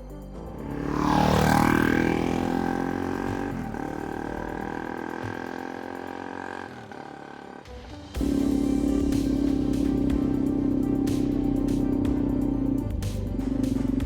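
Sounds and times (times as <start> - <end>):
motorcycle engine passing: 0.5 - 14.0.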